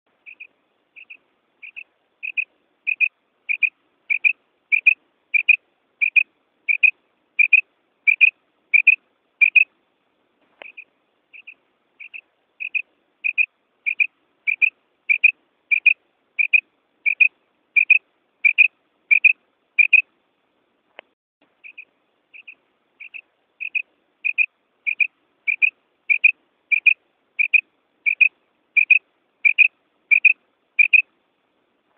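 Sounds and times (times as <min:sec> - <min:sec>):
quail calling: 0:00.2 - 0:09.7, 0:10.6 - 0:20.0, 0:21.6 - 0:31.1.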